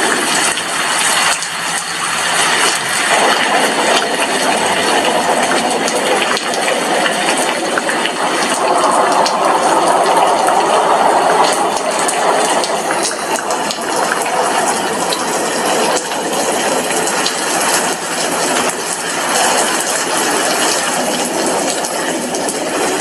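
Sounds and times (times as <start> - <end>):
heavy rain: 0.0 - 23.0
raindrops ticking on glass: 0.0 - 23.0.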